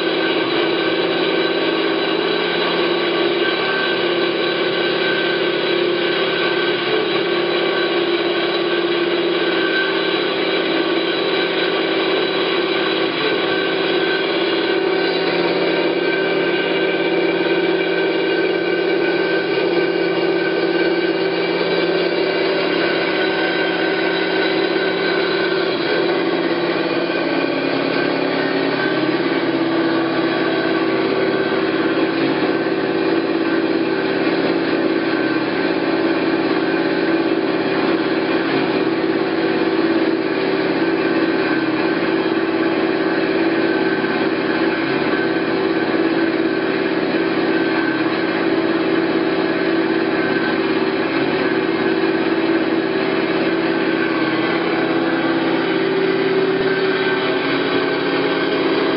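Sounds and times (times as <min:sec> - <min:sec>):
bandsaw humming: 0:00.0 - 0:58.9.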